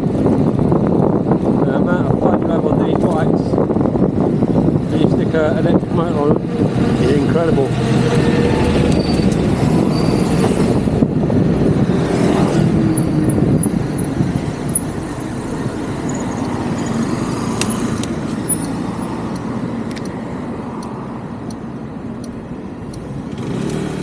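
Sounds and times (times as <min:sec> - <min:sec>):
wind and road noise from riding: 0:00.0 - 0:24.0.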